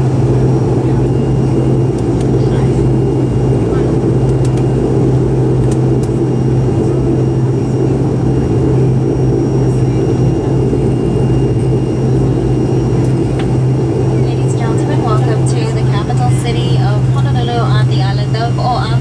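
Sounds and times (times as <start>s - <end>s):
airliner engines droning: 0.0s - 19.0s.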